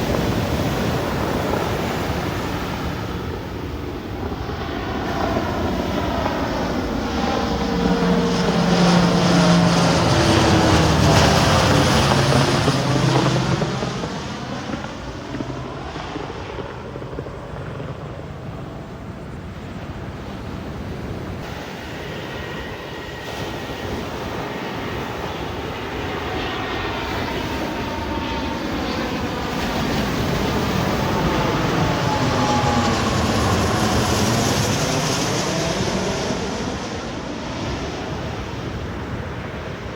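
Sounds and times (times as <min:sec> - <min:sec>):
airplane engine passing overhead: 0:00.0 - 0:39.9.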